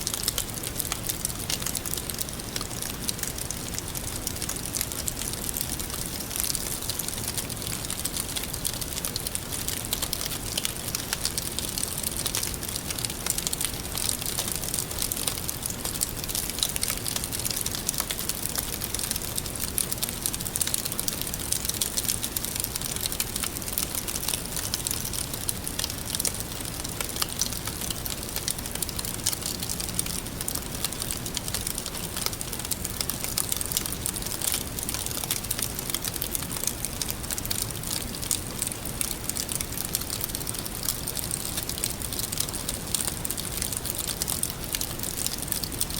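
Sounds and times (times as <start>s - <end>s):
wood fire crackling: 0.1s - 45.9s.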